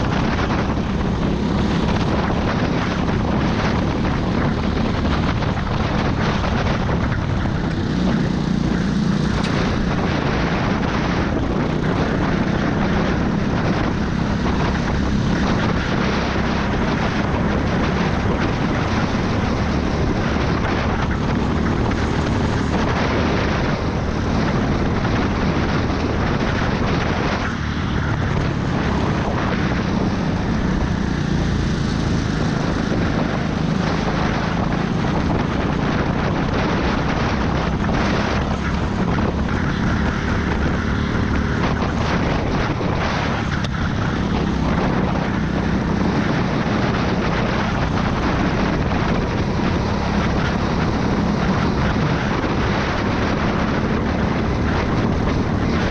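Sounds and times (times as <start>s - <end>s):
go-kart engine racing: 0.0s - 55.9s
steady rushing noise: 0.0s - 55.9s.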